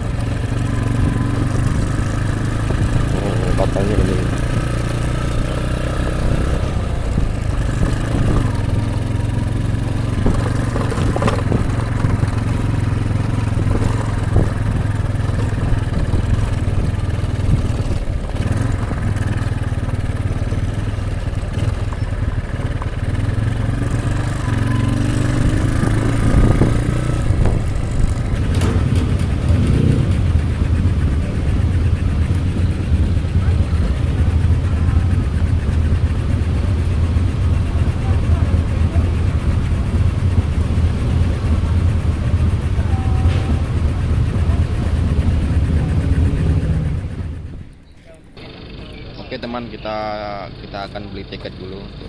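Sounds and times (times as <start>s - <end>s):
vehicle engine droning: 0.0s - 52.0s.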